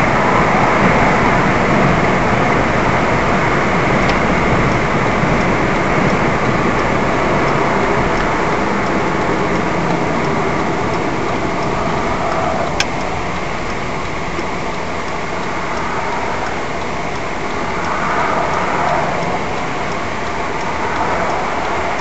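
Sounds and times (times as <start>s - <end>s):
faint regular ticking: 0.0s - 22.0s
wind rush on microphone: 0.0s - 22.0s.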